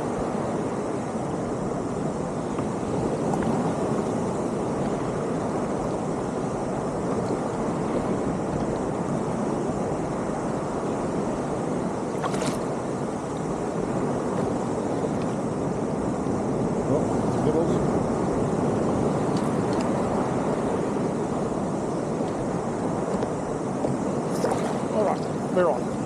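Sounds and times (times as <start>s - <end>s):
sea around a kayak: 0.0s - 26.0s.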